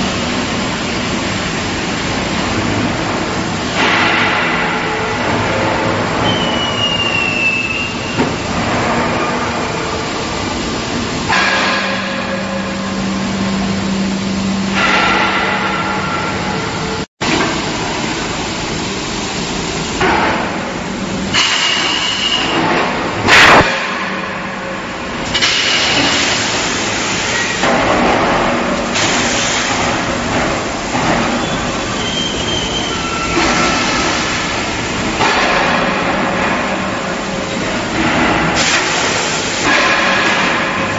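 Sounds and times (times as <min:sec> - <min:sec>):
machinery humming: 0:00.0 - 0:40.9.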